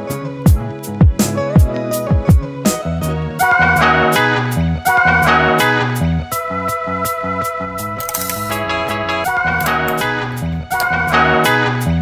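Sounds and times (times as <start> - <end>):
upbeat instrumental with guitar: 0.0 - 12.0.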